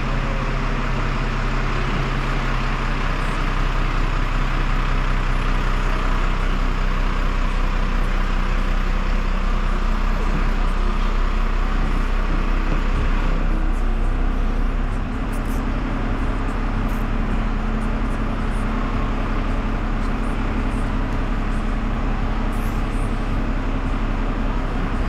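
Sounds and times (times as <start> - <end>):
truck engine humming: 0.0 - 25.0.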